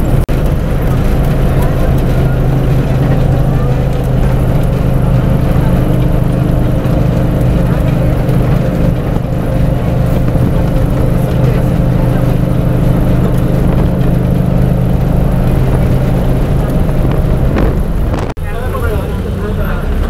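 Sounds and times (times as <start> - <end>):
bus diesel engine hum: 0.0 - 20.0
road and wind noise: 0.0 - 20.0.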